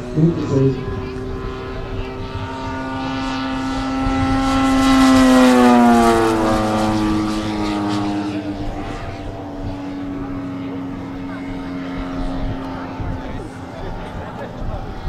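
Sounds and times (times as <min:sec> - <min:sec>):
model plane propeller flying past: 0:00.0 - 0:15.0.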